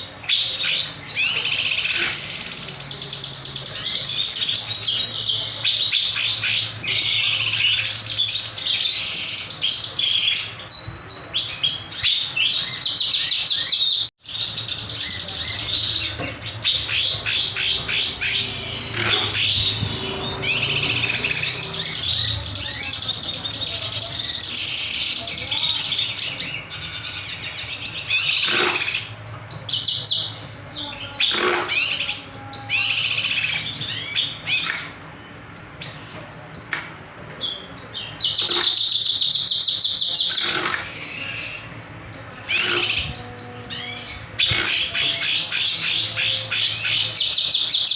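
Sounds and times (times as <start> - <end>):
songbird chirping and trilling: 0.0 - 47.9.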